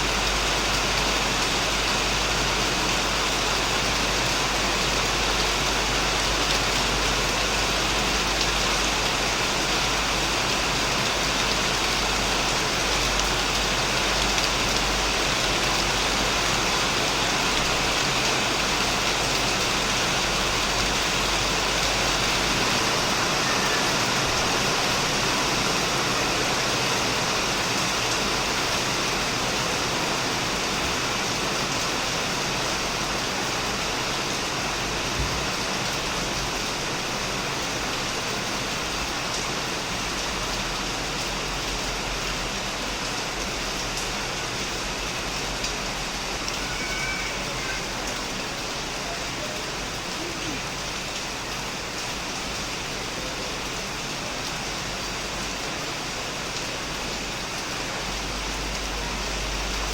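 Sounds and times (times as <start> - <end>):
heavy rain on a shed roof: 0.0 - 59.9.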